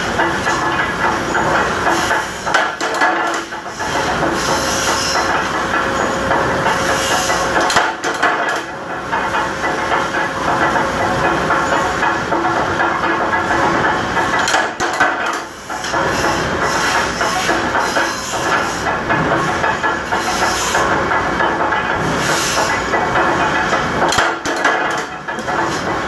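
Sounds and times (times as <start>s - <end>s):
power press flywheel running: 0.0s - 26.0s.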